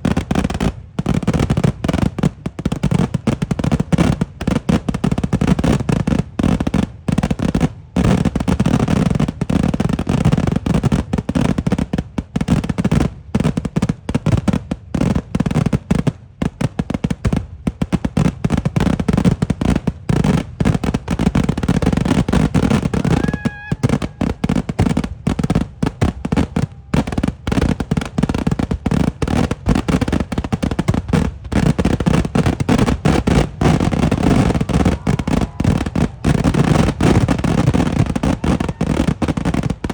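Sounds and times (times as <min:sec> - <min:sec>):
barrage of firework explosions: 0:00.0 - 0:39.9.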